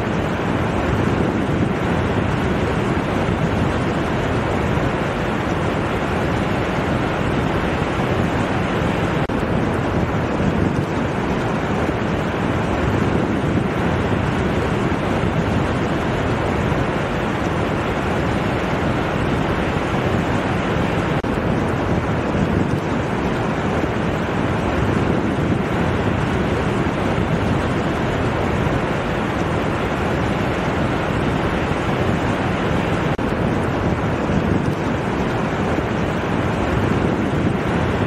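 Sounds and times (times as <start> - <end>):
ocean surf on sandy beach: 0.0 - 38.0.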